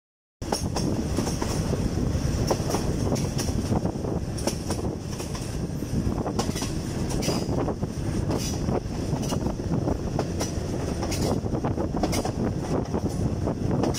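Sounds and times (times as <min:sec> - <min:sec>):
train wheels clacking over rail joints: 0:00.4 - 0:01.8, 0:02.4 - 0:13.9
rumble of moving carriages: 0:00.4 - 0:13.9.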